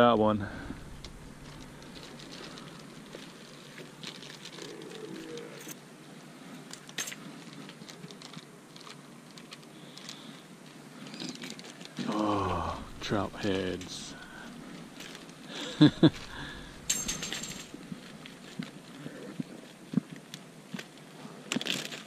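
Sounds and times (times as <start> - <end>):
faint rustling: 0.4 - 22.0.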